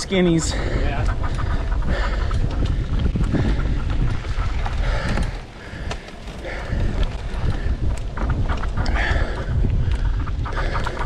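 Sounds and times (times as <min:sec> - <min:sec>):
mountain bike rumble and rattle: 0:00.0 - 0:11.0
wind buffeting microphone: 0:00.0 - 0:11.0.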